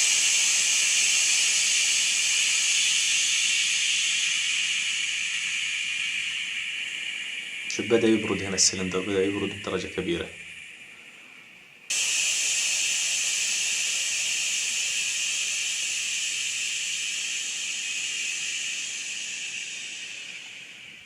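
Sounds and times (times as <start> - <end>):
compressed air hissing: 0.0 - 21.0.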